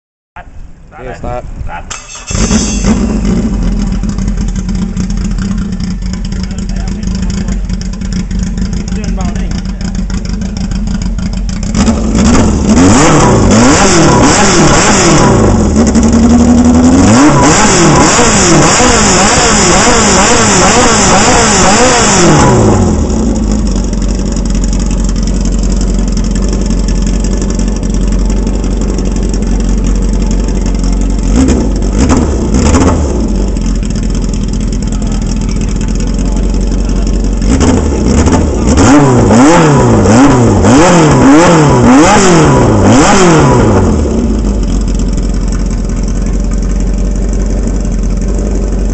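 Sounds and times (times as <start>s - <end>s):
engine revving and idling: 1.0s - 48.9s.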